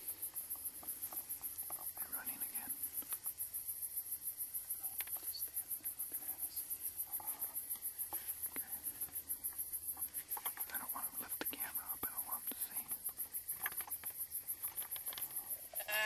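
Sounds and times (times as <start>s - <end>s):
faint clicks: 0.2s - 3.4s, 4.8s - 15.6s.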